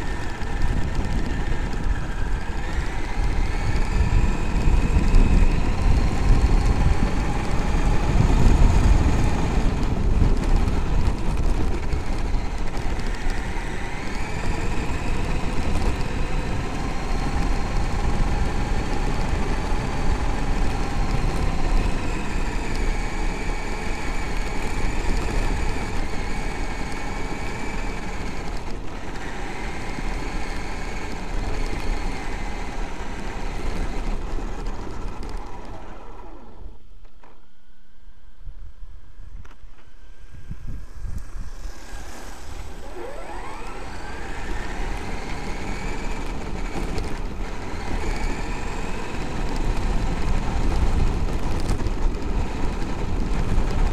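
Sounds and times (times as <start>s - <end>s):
tyres rumbling on gravel: 0.0s - 36.6s, 41.4s - 53.9s
electric motor whine: 0.0s - 53.9s.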